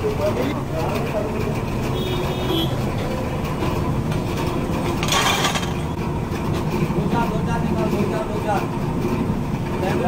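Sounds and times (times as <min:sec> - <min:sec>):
gas burner roaring: 0:00.0 - 0:10.0.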